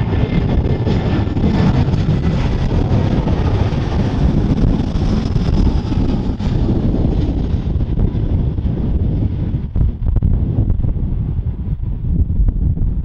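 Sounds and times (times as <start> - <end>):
jet engines: 0.0 - 13.0
wind buffeting microphone: 0.0 - 13.0.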